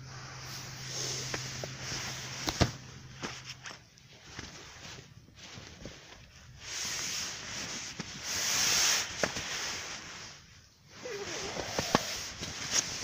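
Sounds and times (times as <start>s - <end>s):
rustling rubbing noise: 0.0s - 13.0s.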